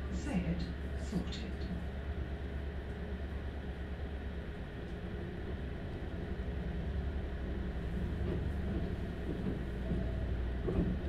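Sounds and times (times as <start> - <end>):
train running noise: 0.0 - 11.0.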